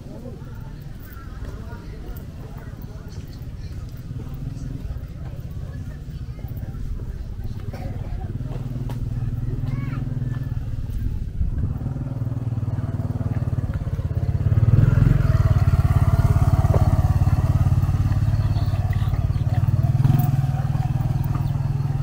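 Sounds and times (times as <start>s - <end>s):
engine running with fast pulse: 3.3s - 22.0s.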